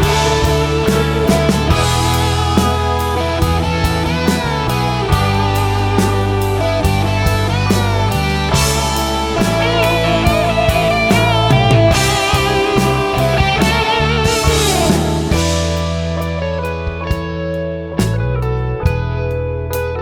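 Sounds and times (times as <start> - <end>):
drum kit: 0.0 - 19.9
bass guitar notes: 0.0 - 20.0
lead guitar melody: 0.0 - 20.0.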